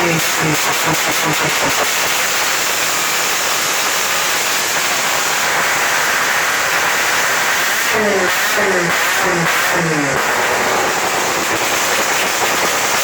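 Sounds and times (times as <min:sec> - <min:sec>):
rotary race car engine running: 0:00.0 - 0:13.0.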